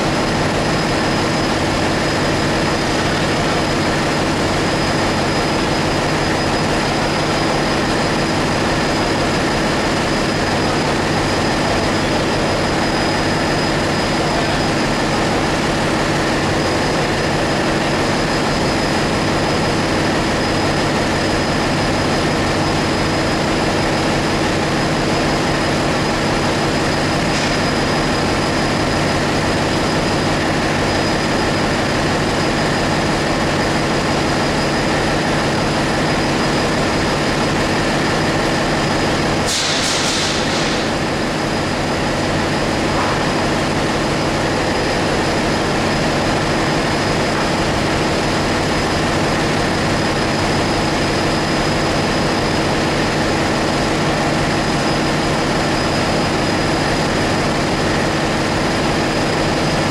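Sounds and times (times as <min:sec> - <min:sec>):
engine-room machinery drone: 0:00.0 - 0:59.9.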